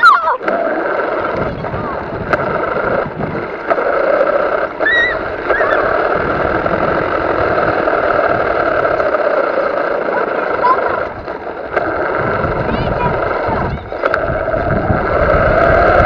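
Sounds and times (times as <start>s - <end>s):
toy car motor whine: 0.0s - 16.0s
tyre and chassis rumble: 0.0s - 16.0s.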